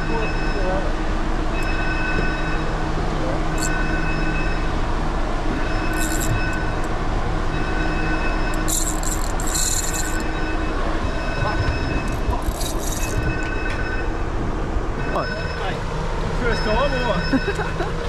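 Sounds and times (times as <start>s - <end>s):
high whine tones: 0.0s - 15.8s
machinery drone: 0.0s - 18.0s.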